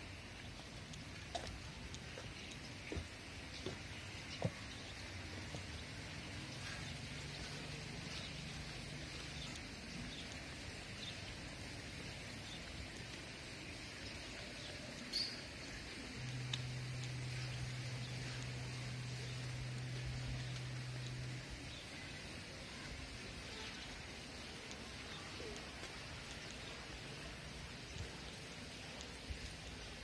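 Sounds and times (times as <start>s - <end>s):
steady hiss: 0.0s - 30.0s
steady low hum: 0.0s - 30.0s.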